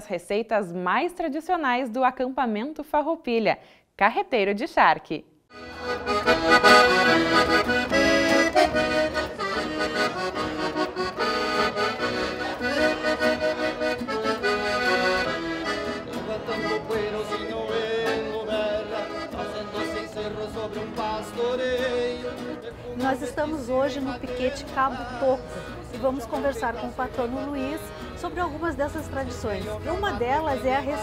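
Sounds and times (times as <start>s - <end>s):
accordion dance music: 5.5s - 31.0s.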